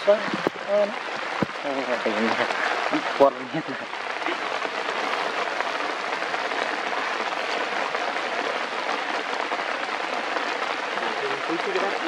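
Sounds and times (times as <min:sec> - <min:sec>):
water drops on foliage: 0:00.0 - 0:12.0.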